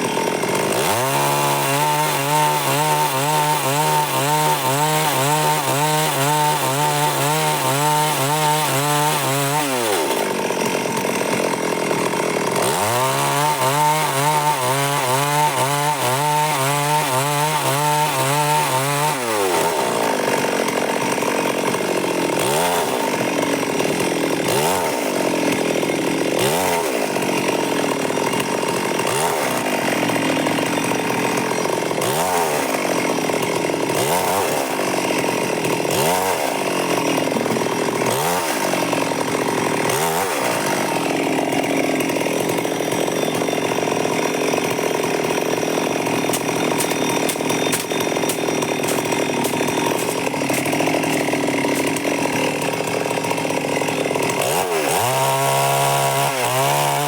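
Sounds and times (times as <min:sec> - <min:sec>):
chainsaw engine running: 0:00.0 - 0:57.0.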